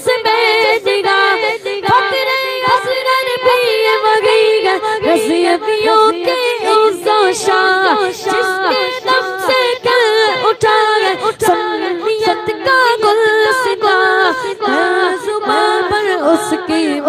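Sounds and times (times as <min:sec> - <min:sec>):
boy singing unaccompanied: 0:00.0 - 0:17.0.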